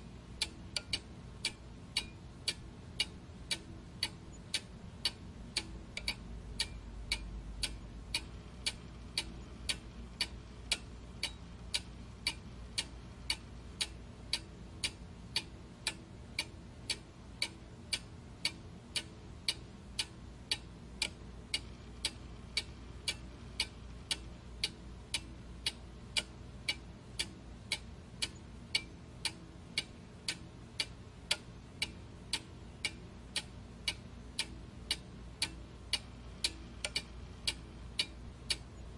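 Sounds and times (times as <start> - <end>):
faint low hum: 0.0 - 38.9
clock-like ticking: 0.4 - 38.8.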